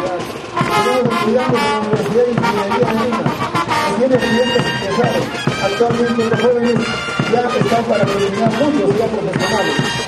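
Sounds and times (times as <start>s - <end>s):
brass band dance music: 0.0s - 10.0s.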